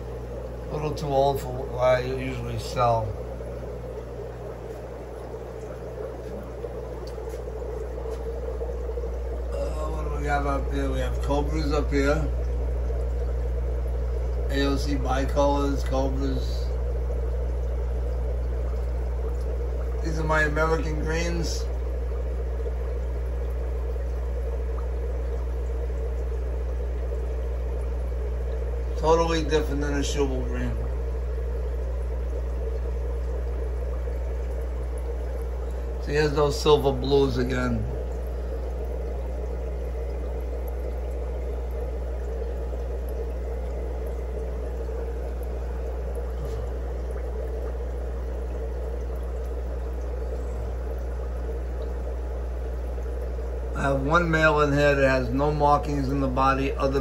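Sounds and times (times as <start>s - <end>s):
steady low hum: 0.0s - 57.0s
water bubbling in filters: 0.0s - 57.0s.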